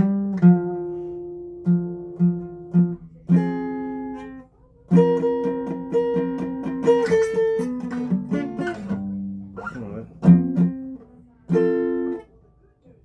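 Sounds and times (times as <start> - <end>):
guitar chords and picked notes: 0.0 - 12.3.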